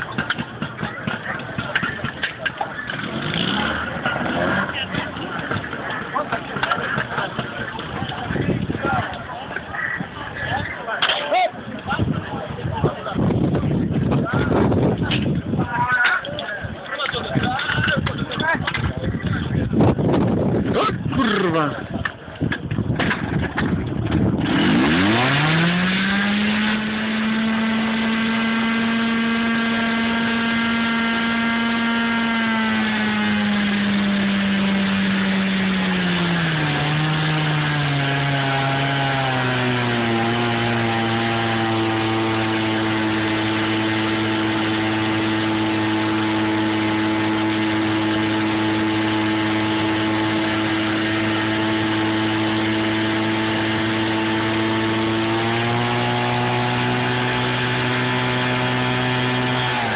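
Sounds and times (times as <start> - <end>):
fire pump engine revving: 0.0 - 10.7, 22.5 - 59.9.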